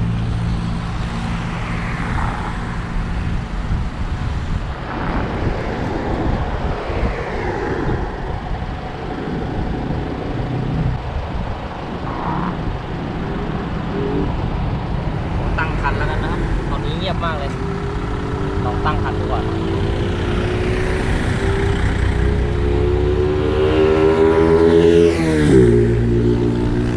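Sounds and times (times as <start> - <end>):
cars passing: 0.0 - 26.9.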